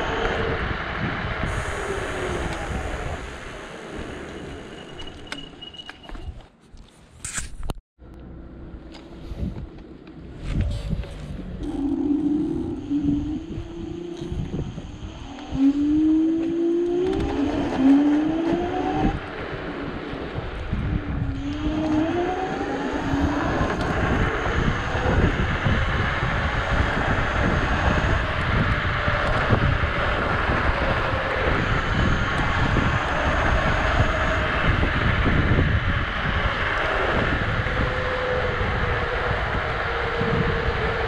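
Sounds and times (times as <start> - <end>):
electric scooter motor whine: 0.0 - 6.2, 10.5 - 41.0
wind rumble on microphone: 0.0 - 6.5, 7.2 - 41.0.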